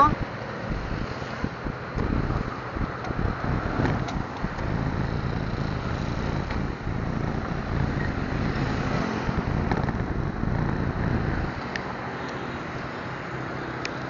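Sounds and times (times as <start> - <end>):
engine rumble: 0.0 - 14.0
passing traffic: 0.0 - 14.0.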